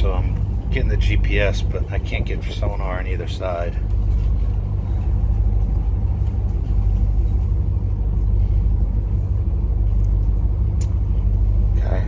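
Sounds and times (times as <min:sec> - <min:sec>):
diesel engines idling: 0:00.0 - 0:12.0.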